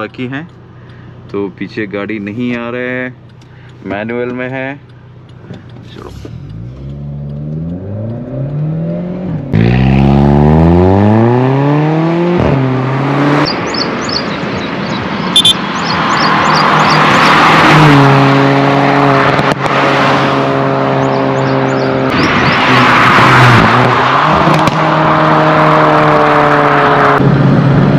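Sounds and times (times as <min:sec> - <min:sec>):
wind and tyre noise: 0:00.0 - 0:27.9
car engine accelerating: 0:04.2 - 0:15.0, 0:15.7 - 0:27.9.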